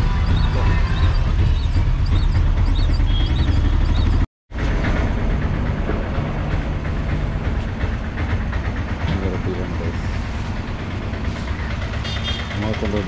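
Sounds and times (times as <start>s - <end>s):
autorickshaw engine running: 0.0s - 13.0s
road noise: 0.0s - 13.0s.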